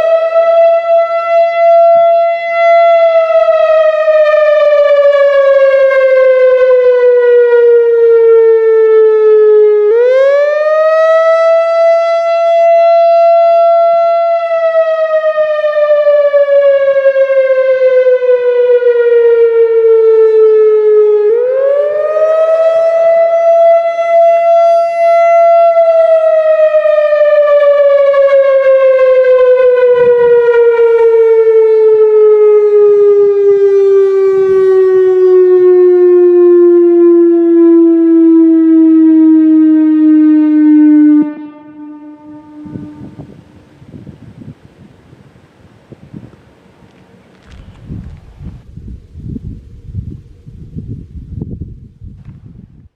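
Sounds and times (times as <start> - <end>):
warning siren wailing: 0.0 - 52.0.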